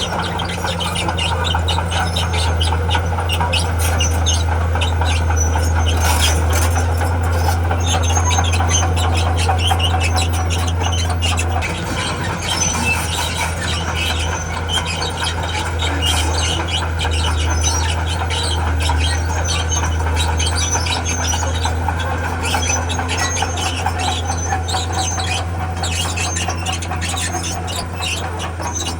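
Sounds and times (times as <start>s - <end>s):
diesel engine running: 0.0s - 28.9s
steel tracks squealing and clanking: 0.0s - 28.9s.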